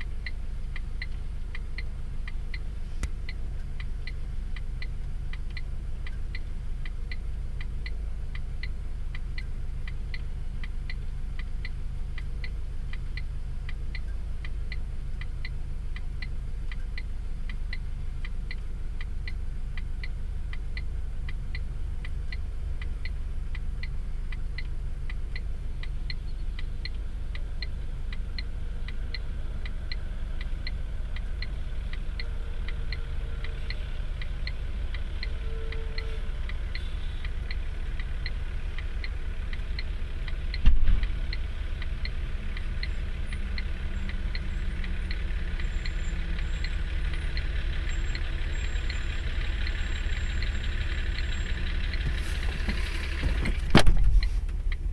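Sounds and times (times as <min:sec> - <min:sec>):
low engine rumble: 0:00.0 - 0:54.9.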